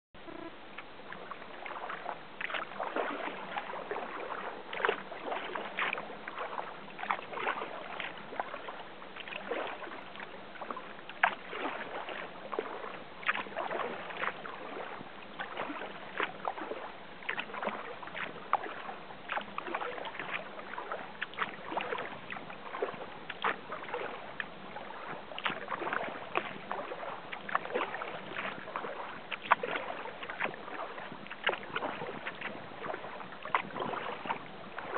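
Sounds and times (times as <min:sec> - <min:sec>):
paddle splashing in water: 0:00.2 - 0:34.9.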